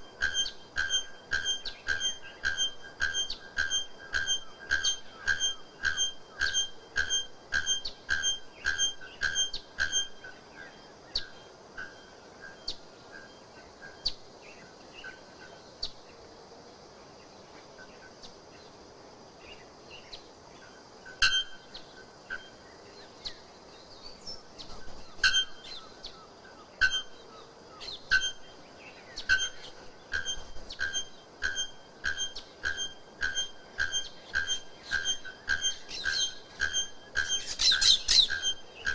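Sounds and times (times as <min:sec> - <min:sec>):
bird calling with ringing notes: 0:00.0 - 0:16.0, 0:19.5 - 0:38.9.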